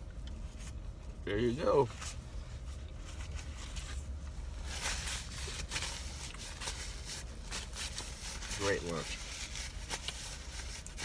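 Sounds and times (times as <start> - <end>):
rustling and handling noises: 0.0 - 11.0
steady low rumble: 0.0 - 11.0.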